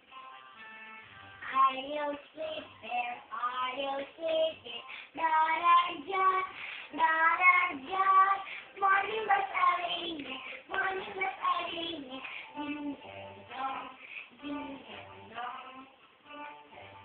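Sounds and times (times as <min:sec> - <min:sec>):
child singing: 0:01.4 - 0:17.0.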